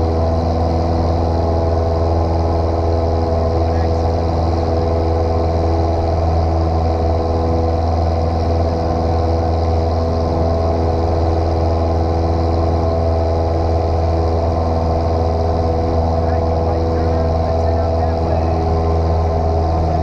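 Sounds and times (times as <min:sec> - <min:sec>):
airplane engine and propeller droning: 0:00.0 - 0:20.0.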